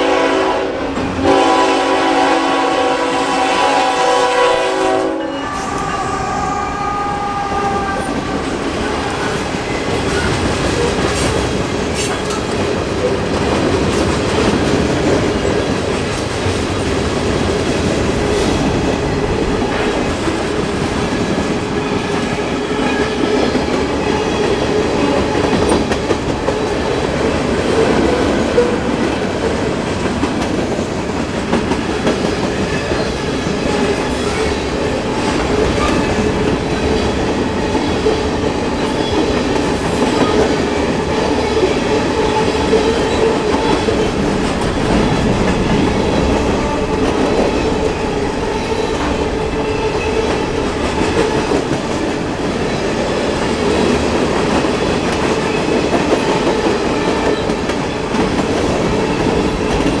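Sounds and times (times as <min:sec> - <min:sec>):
freight train wheels clacking: 0:00.0 - 1:00.0.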